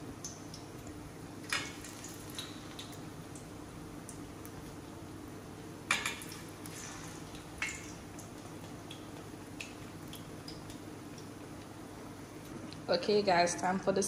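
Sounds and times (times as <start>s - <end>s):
slices frying in oil: 0.0s - 13.7s.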